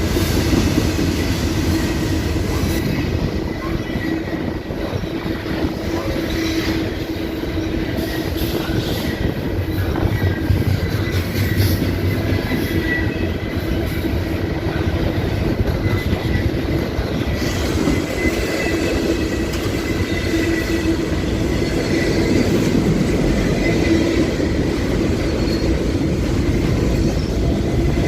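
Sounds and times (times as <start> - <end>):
train cars rolling on rails: 0.0 - 28.0.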